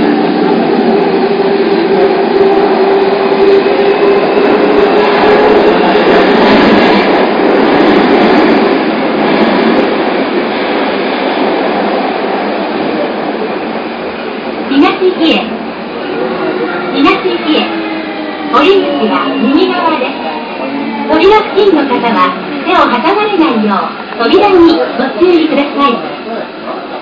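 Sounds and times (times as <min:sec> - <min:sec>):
train wheels on rail: 0:00.0 - 0:27.0.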